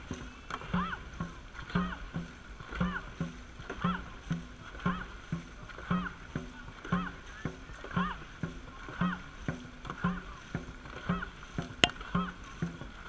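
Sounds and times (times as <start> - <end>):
paddle strokes in water: 0.0 - 13.0.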